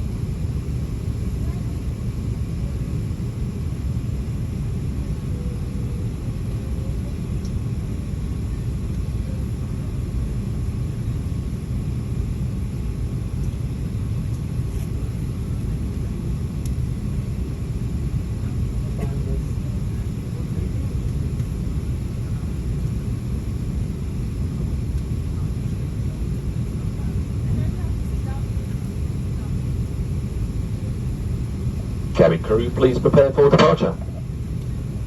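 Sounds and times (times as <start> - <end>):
aircraft cabin low rumble: 0.0 - 35.0.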